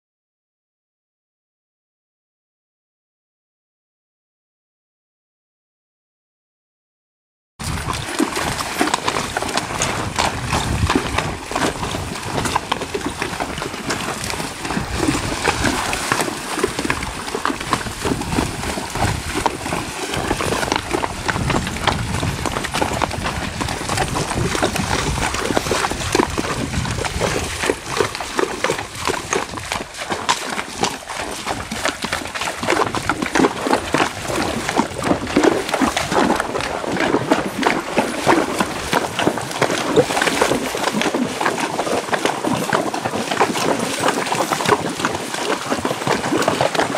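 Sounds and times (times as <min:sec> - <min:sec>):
hooves splashing through water: 0:07.6 - 0:46.9.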